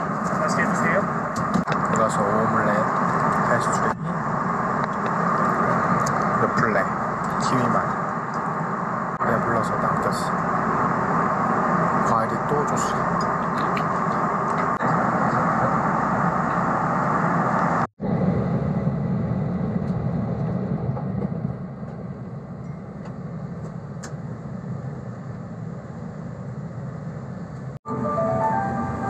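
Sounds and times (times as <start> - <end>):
jet engines and airflow rushing: 0.0 - 29.0.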